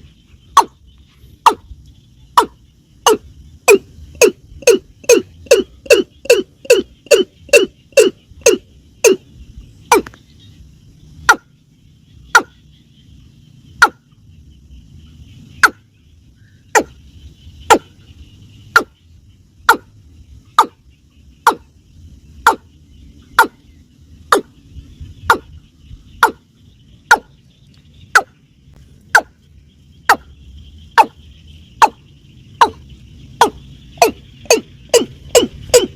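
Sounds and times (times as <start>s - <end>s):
insects buzzing faintly: 0.0s - 35.9s.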